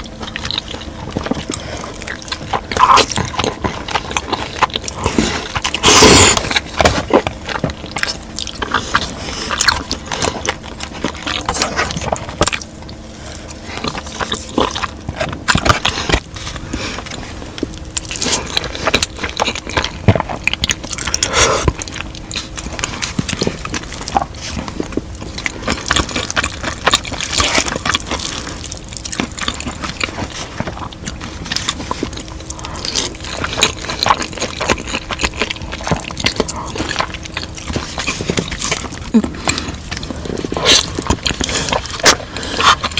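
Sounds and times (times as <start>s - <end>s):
close-miked chewing: 0.0s - 42.9s.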